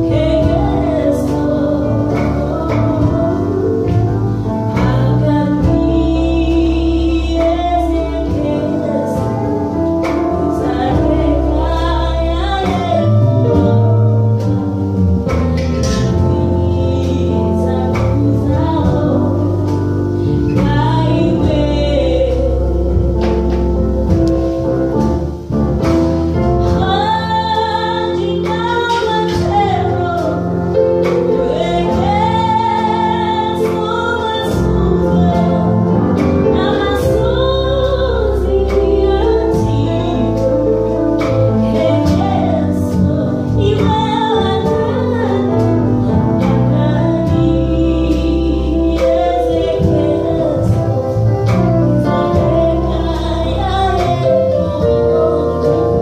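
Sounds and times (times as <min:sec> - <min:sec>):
woman singing gospel: 0:00.0 - 0:25.1, 0:26.4 - 0:56.0
live band playing: 0:00.0 - 0:56.0.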